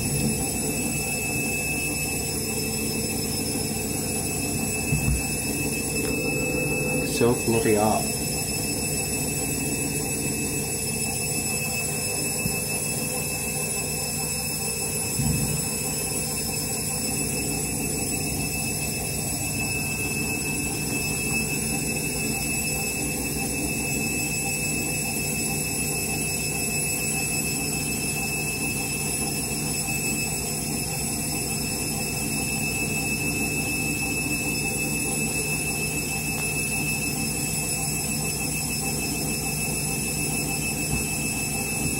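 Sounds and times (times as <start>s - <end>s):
washing machine whining: 0.0s - 41.9s.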